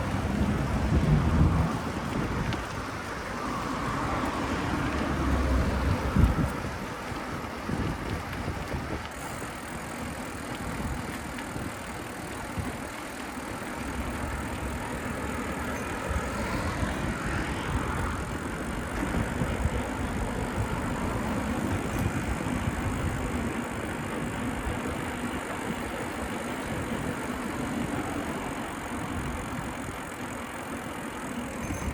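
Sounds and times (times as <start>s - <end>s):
bicycle road noise rumble: 0.0s - 31.9s
street traffic: 0.0s - 31.9s.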